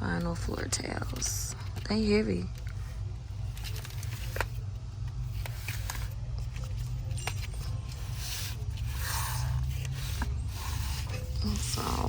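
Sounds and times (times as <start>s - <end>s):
store background hum: 0.0s - 12.0s.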